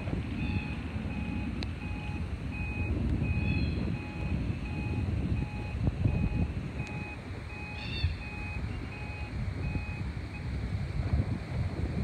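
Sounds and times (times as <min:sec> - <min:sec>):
truck reversing alarm beeping: 0:00.0 - 0:10.6
low rumble: 0:00.0 - 0:12.0.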